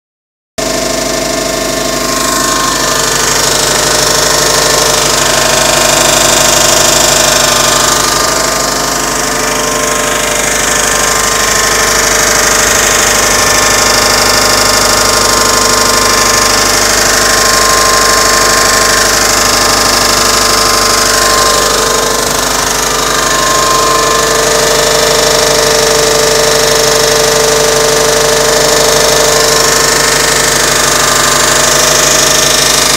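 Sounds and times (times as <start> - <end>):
car engine running: 0.6 - 32.9
rapid engine clicking: 0.6 - 32.9.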